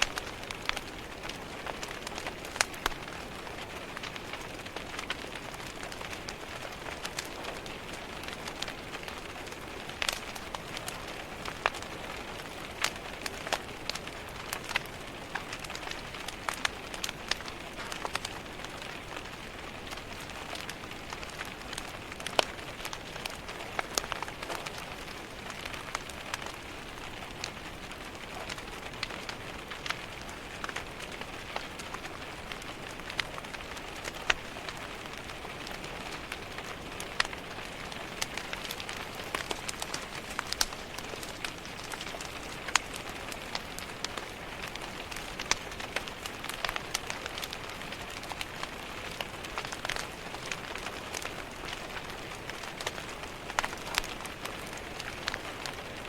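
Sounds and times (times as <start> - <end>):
rain pattering on a window: 0.0 - 56.0
wood fire crackling: 0.0 - 56.0.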